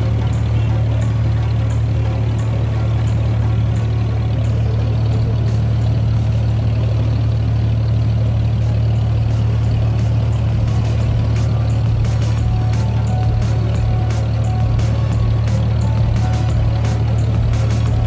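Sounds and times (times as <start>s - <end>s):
boat diesel engine drone: 0.0s - 18.0s.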